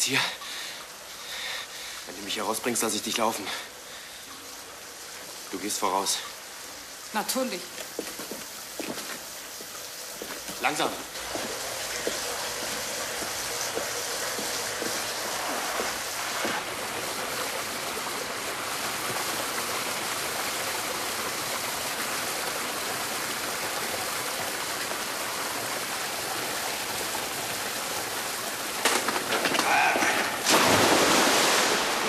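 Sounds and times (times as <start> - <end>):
water rushing in sewer tunnel: 0.0 - 32.0.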